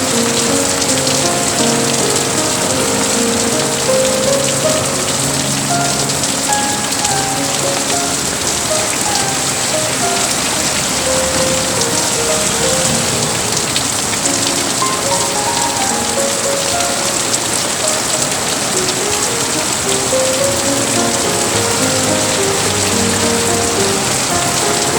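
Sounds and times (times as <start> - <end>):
faint soft melody: 0.0 - 24.9
steady rain falling: 0.0 - 24.9.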